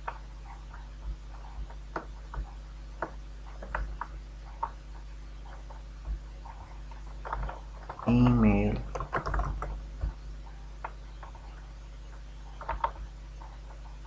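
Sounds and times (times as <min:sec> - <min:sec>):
keyboard clicks: 0:00.0 - 0:10.2, 0:10.8 - 0:14.0
low electrical hum: 0:00.0 - 0:14.0.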